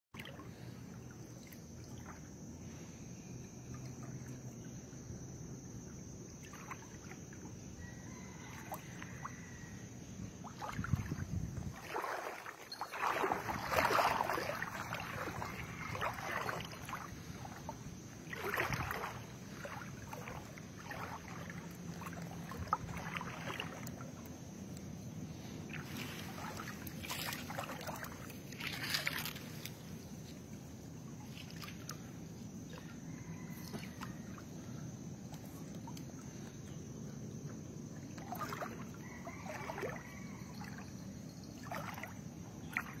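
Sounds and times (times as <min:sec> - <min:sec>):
water sloshing and splashing: 0:00.1 - 0:43.0.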